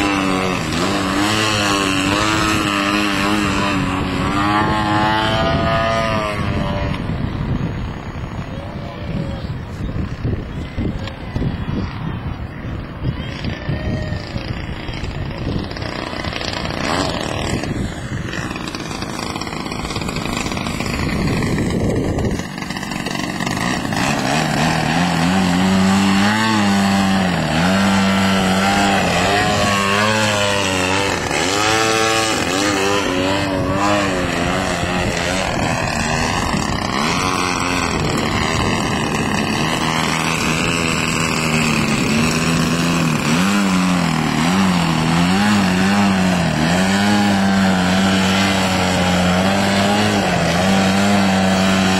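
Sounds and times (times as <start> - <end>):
model airplane engine: 0.0 - 51.9
wind: 0.0 - 51.9.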